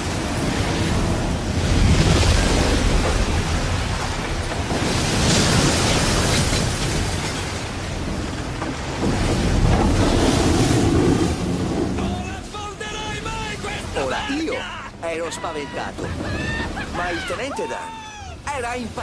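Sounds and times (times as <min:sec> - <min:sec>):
stormy wind and rain: 0:00.0 - 0:19.0.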